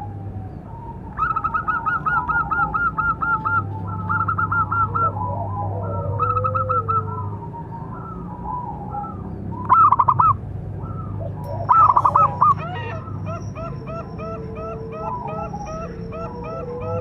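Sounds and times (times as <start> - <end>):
doves calling: 0.0 - 17.0.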